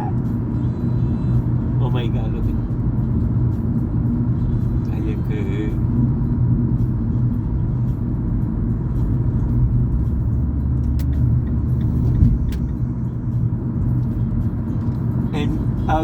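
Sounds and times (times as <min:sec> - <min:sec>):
car interior engine and tyre rumble: 0:00.0 - 0:16.0.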